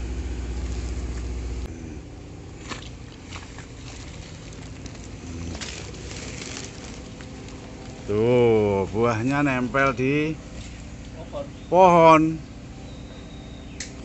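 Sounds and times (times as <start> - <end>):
heavy low rumble: 0.0 - 14.0
low motor hum: 0.0 - 14.0.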